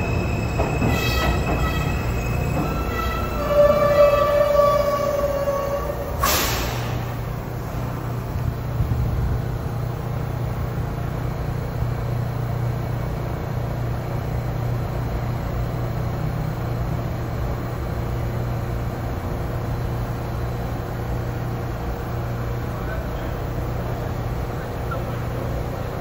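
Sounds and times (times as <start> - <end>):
subway car equipment humming: 0.0 - 26.0.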